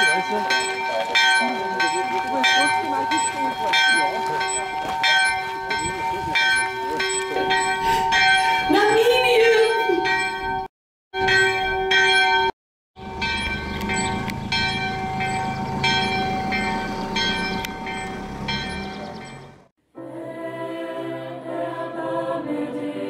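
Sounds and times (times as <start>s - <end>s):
church bell ringing: 0.0s - 19.6s.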